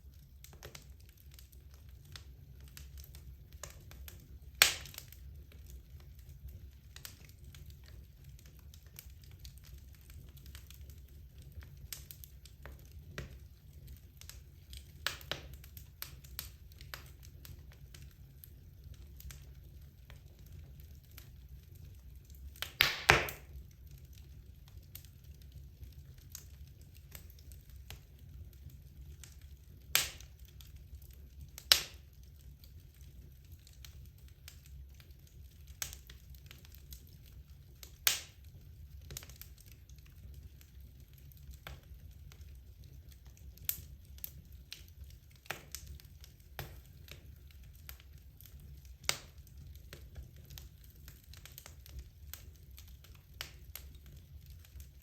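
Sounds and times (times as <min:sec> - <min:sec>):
low fire rumble: 0:00.0 - 0:55.0
logs crackling with sharp pops: 0:00.3 - 0:55.0.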